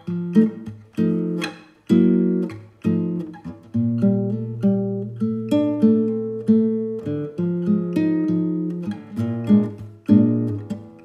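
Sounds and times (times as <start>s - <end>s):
plucked acoustic guitar chords: 0.0s - 11.0s.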